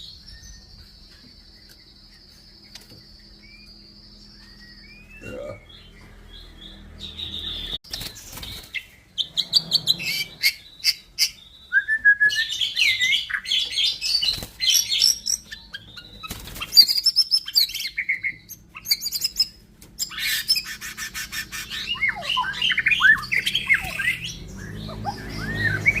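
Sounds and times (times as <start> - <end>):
bird singing varied song: 0.0 - 26.0.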